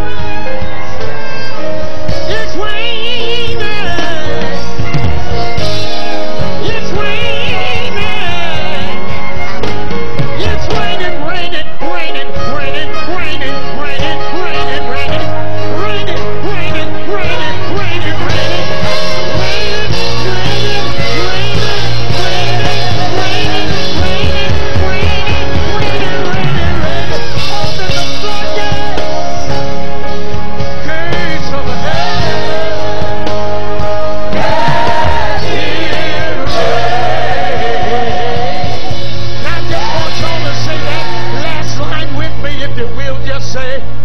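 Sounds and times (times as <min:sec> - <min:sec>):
band playing gospel music: 0:00.0 - 0:44.0
voices singing held notes: 0:02.1 - 0:09.6, 0:10.3 - 0:42.2.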